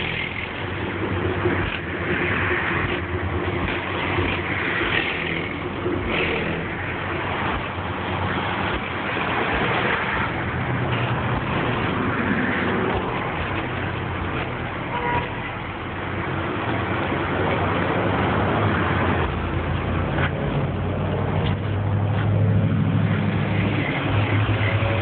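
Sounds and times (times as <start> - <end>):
outdoor noise: 0.0 - 25.0.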